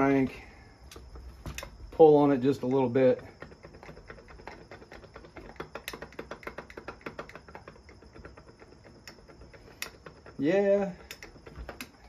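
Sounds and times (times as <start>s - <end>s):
crankshaft clicking and rattling: 0.9s - 12.0s.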